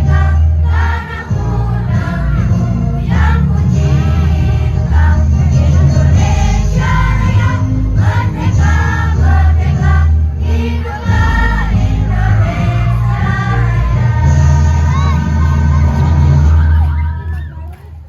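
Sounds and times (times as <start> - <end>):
children's choir singing: 0.0 - 17.2
amplified backing music with bass: 0.0 - 17.8.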